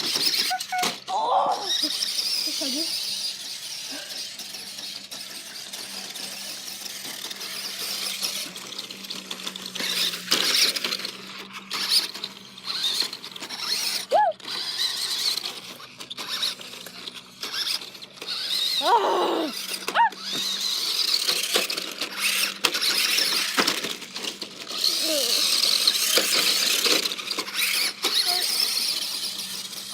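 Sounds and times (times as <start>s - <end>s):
toy car electric motor whining: 0.0s - 29.9s.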